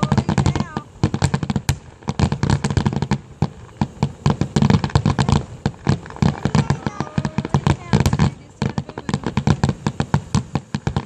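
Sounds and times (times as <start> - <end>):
fireworks booms: 0.0 - 11.0
fireworks cracking and popping: 0.0 - 11.0.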